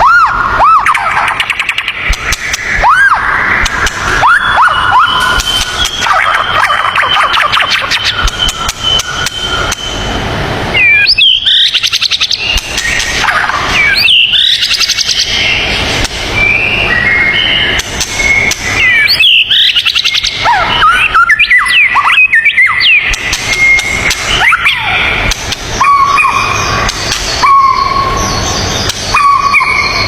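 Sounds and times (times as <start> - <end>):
songbirds singing: 0.6 - 30.0.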